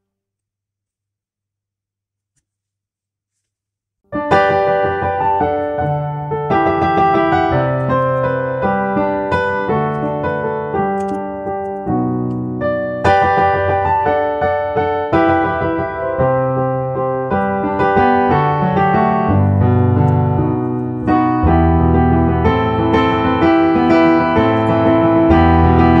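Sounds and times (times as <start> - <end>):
piano background music: 4.1 - 26.0.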